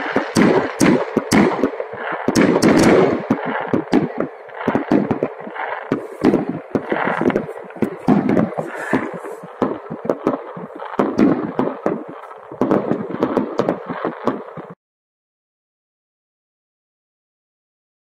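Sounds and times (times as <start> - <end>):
firecracker crackling: 0.0 - 14.8
firework bangs: 0.0 - 14.8.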